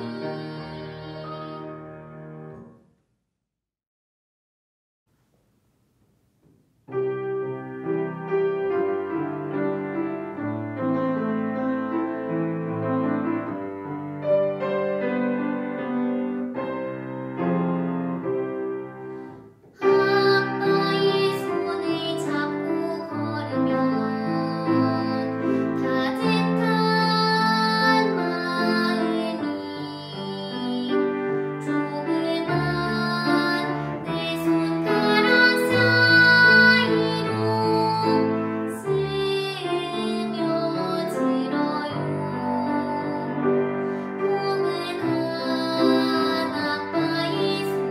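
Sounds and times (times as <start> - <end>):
girl singing classical style: 0.0 - 2.6, 6.9 - 47.9
grand piano playing: 0.0 - 2.8, 6.8 - 47.9.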